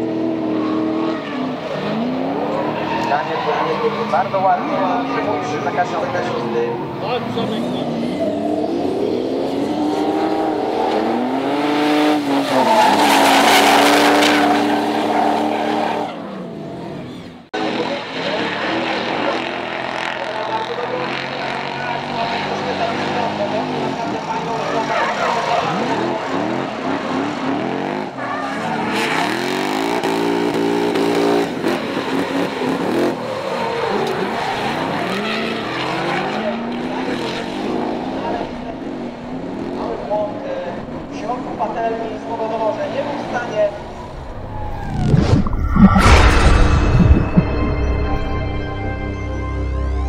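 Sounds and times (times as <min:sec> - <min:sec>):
car engines at high revs: 0:00.0 - 0:45.8.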